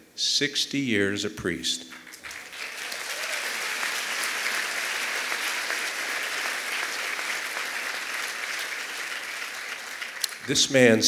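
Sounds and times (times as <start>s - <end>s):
audience applauding: 1.9s - 10.8s.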